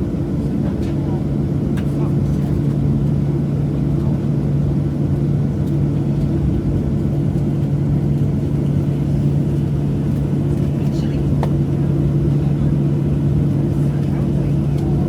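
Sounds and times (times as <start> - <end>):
jet engines idling in cabin: 0.0 - 15.0.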